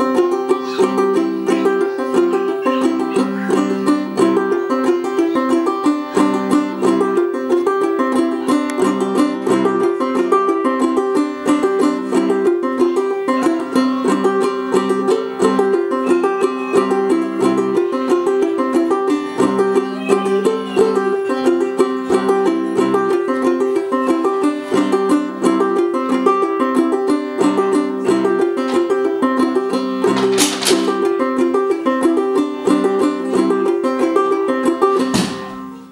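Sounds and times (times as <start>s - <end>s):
banjo plucked and strummed: 0.0s - 35.9s.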